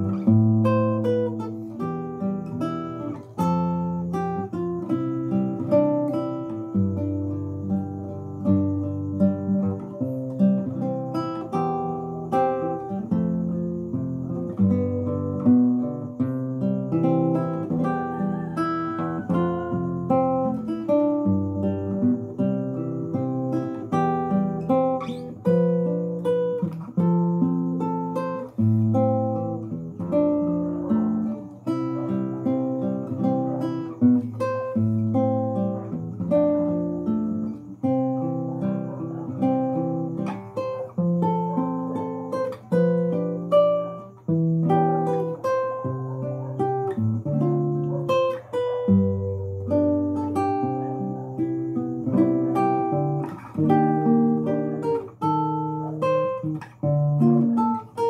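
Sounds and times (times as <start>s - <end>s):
classical guitar fingerstyle: 0.0s - 58.0s.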